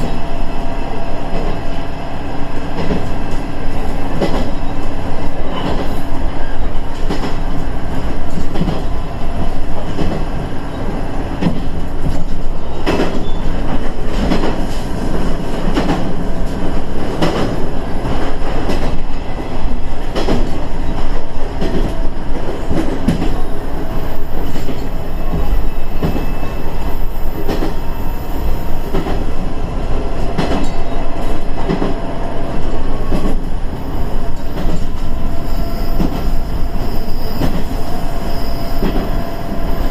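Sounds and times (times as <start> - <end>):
train engine rumble: 0.0 - 39.9.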